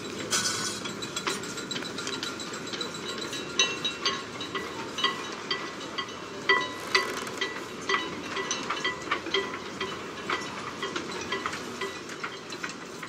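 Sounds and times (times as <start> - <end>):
ticking with ringing tone: 0.0 - 13.0.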